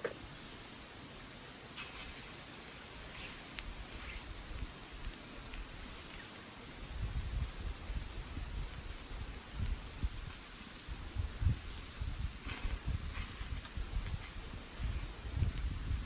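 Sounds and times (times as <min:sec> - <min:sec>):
fire crackles and pops: 0:00.0 - 0:16.0
wood fire hissing: 0:00.0 - 0:16.0.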